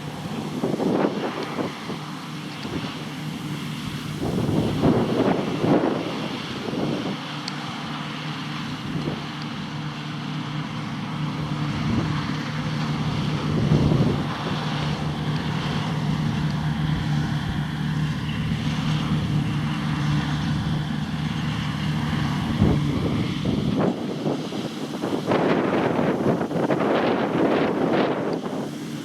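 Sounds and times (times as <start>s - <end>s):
combine harvester humming: 0.0s - 29.0s.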